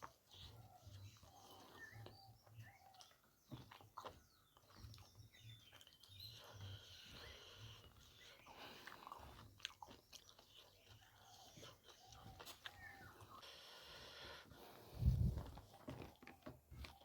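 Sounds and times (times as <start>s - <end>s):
mouth clicks and wet chewing: 0.0s - 13.5s, 14.9s - 17.0s.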